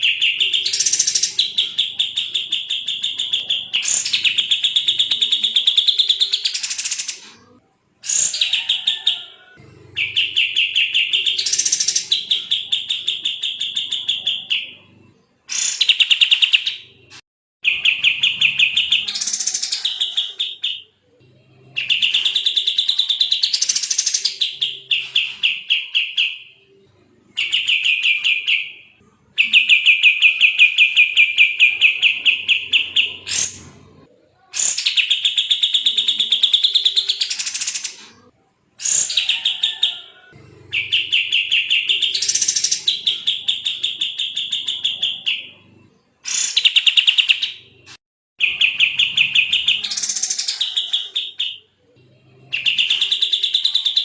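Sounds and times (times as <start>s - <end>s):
songbird singing rapid phrases: 0.0s - 7.2s, 9.9s - 14.9s, 15.5s - 26.8s, 27.4s - 33.7s, 34.5s - 38.0s, 38.8s - 47.8s, 48.4s - 54.0s.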